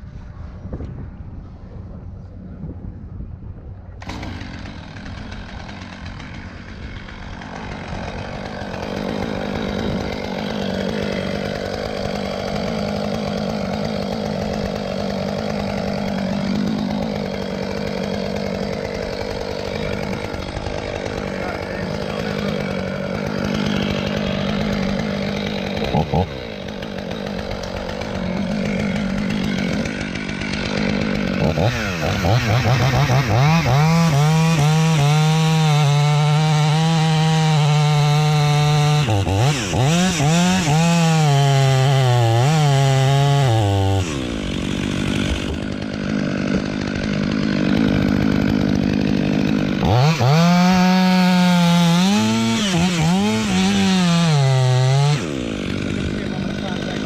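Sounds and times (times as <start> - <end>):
chainsaw cutting wood: 4.0 - 57.0.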